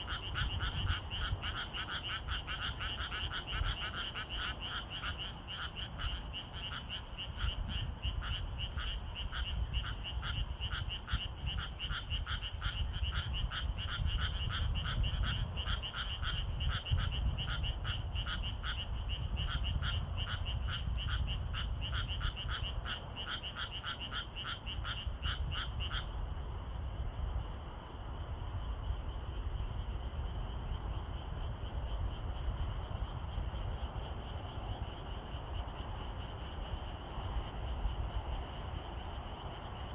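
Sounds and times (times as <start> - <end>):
frog croaking: 0.0 - 26.2, 28.6 - 39.9.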